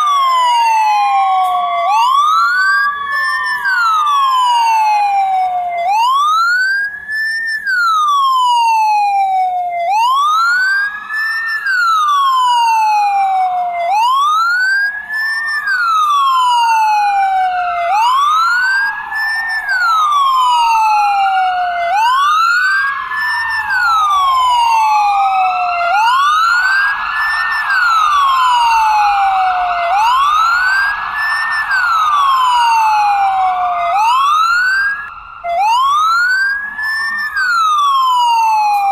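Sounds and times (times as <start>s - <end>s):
ambulance siren wailing: 0.0s - 38.9s
faint second siren wail: 0.0s - 38.9s.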